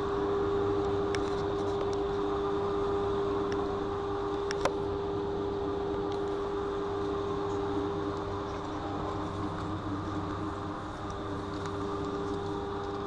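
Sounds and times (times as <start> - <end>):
constant whine: 0.0 - 13.0
train hum and rumble: 0.0 - 13.0.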